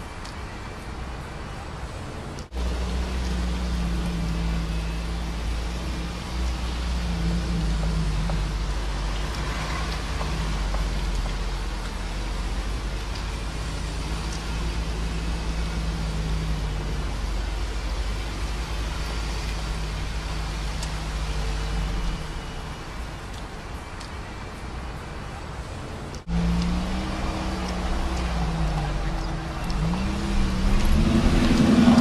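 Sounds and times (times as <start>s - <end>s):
engine hum: 0.0s - 32.0s
vehicle road rumble: 0.0s - 32.0s.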